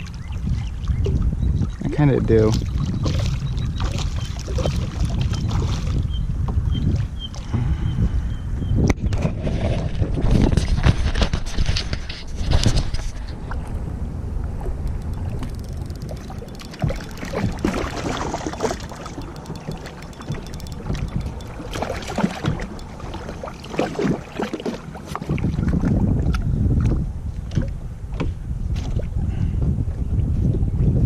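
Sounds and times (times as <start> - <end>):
water noise: 0.0 - 31.0
wind buffeting microphone: 0.0 - 31.0.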